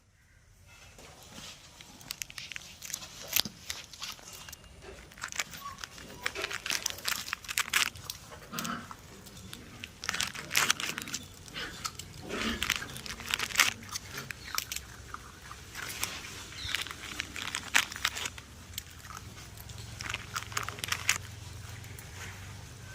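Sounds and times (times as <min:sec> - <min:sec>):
puppies chewing and scuffling: 0:01.0 - 0:22.9.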